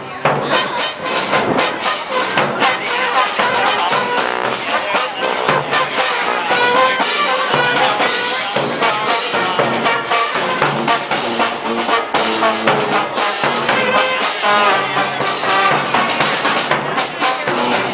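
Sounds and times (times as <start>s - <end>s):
drums keeping a beat: 0.0s - 17.9s
trumpets and trombones melody: 0.0s - 17.9s.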